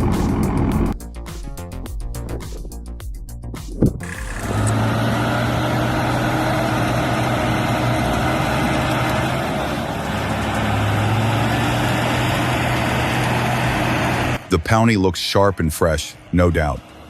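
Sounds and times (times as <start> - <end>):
tractor engine running: 0.0 - 1.0, 1.7 - 17.0.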